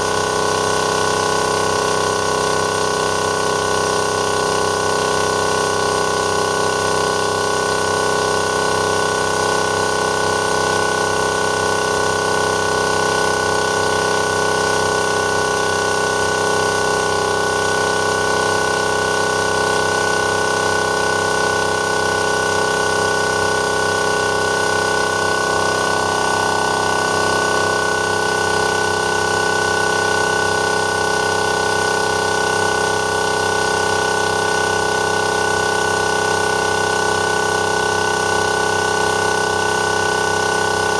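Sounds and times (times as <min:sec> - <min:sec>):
air compressor running: 0:00.0 - 0:40.9.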